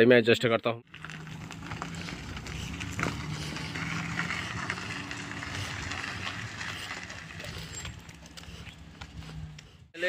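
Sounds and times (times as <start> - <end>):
car engine hum: 0.9 - 9.8
tyre noise: 0.9 - 9.9.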